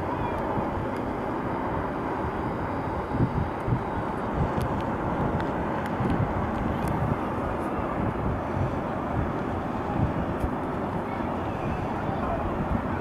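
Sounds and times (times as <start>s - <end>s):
distant road traffic rumble: 0.0s - 13.0s
wind buffeting microphone: 0.0s - 13.0s.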